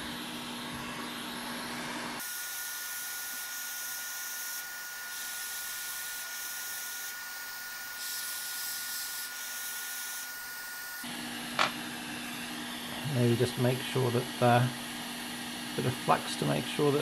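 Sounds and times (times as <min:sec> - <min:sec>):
hot air blower hissing: 0:00.0 - 0:17.0.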